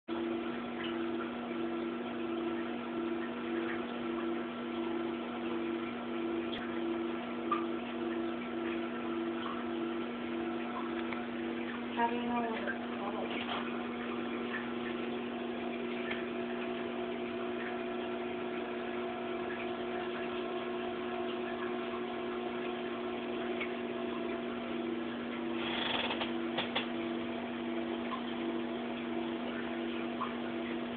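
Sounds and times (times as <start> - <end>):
aquarium equipment hum: 0.1 - 30.9.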